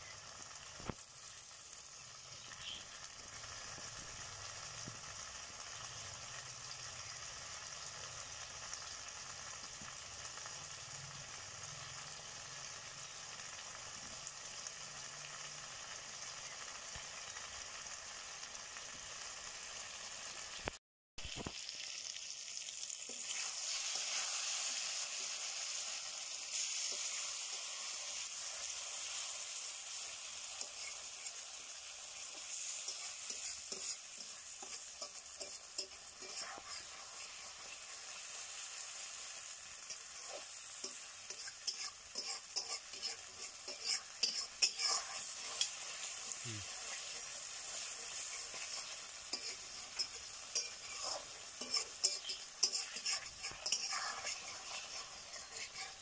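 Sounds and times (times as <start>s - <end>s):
chicken sizzling in gravy: 0.0s - 56.0s.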